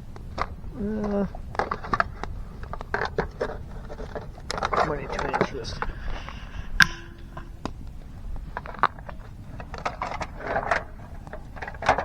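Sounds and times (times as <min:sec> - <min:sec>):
clicks and scrapes of pan cooking: 0:01.6 - 0:12.0.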